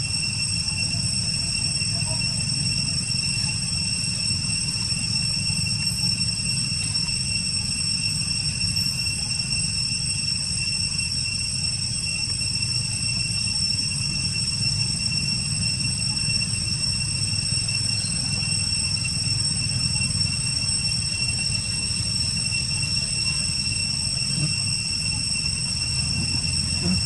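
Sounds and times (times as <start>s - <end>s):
high-pitched whine: 0.0s - 27.0s.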